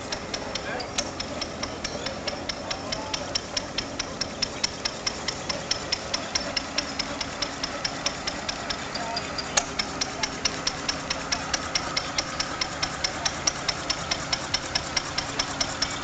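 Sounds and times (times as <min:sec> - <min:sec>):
rapid even clicking: 0:00.0 - 0:16.0
threshing machine hum: 0:00.0 - 0:16.0.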